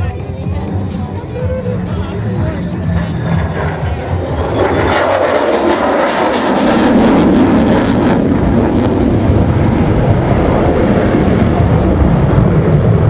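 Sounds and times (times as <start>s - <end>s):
jet engine flying past: 0.0s - 13.0s.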